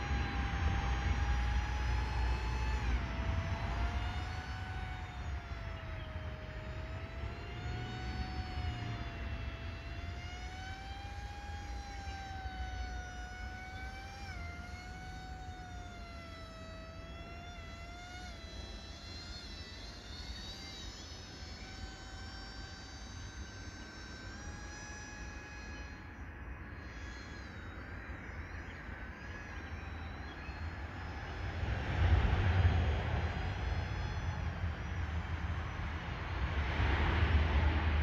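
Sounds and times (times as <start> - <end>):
model motor and propeller whining: 0.0 - 38.0.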